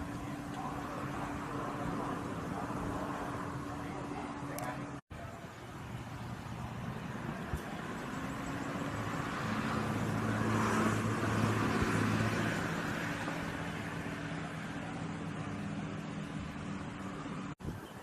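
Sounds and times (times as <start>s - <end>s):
vehicle engine passing by: 0.0s - 5.0s, 5.7s - 17.6s.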